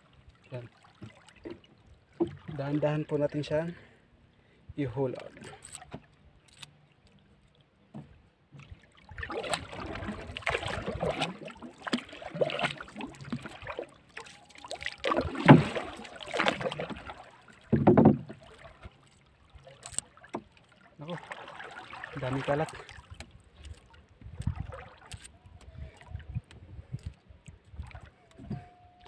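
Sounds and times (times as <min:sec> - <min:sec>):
water splashing and dripping: 0:00.0 - 0:02.9, 0:05.2 - 0:28.5.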